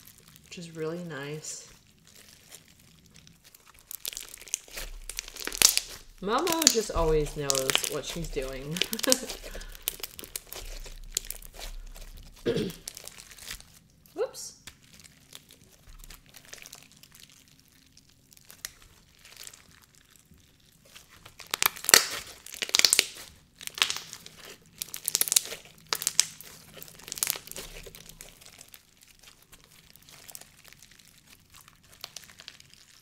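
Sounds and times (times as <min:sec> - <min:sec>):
slime crunching and crackling: 0:00.0 - 0:33.0.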